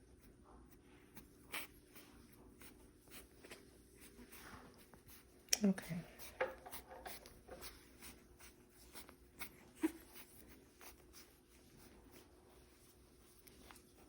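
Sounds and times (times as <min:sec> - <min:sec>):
soft clicks and scratching: 0:00.1 - 0:14.0.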